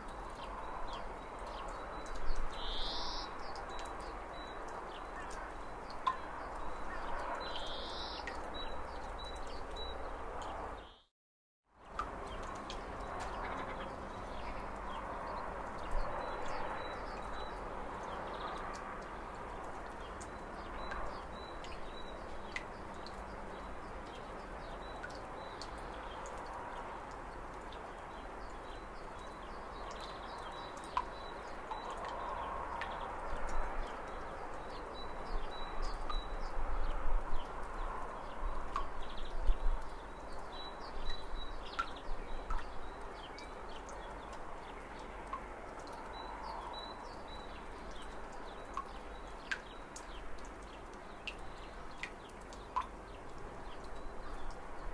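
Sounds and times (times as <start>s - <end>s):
steady outdoor hiss: 0.0s - 11.0s, 11.8s - 54.9s.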